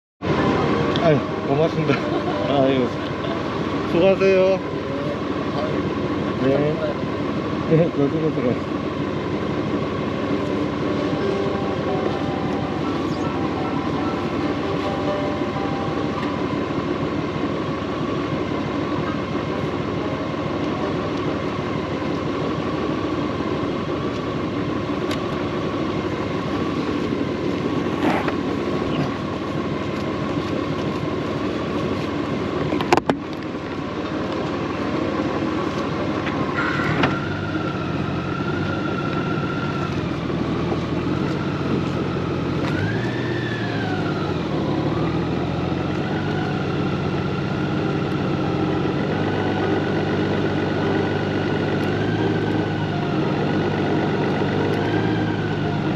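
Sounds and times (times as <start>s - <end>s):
motorcycle engine: 0.2s - 55.9s
traffic noise: 0.2s - 55.9s.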